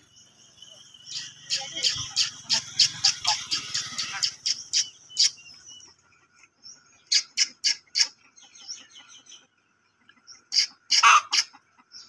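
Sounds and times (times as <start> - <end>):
soft bird chirps: 0.0 - 10.8.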